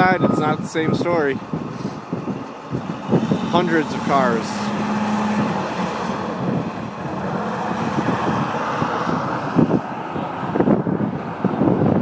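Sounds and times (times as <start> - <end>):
wind on microphone: 0.0 - 12.0
road traffic hiss: 0.6 - 10.6.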